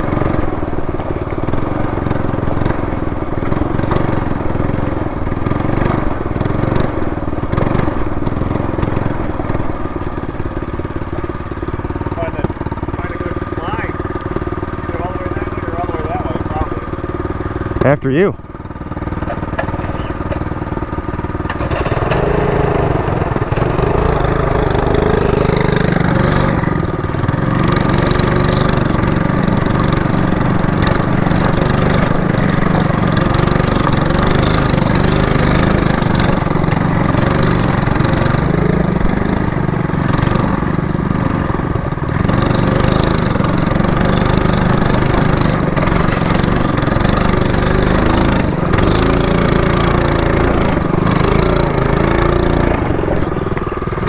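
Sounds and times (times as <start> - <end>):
small minibike engine running: 0.0 - 54.0.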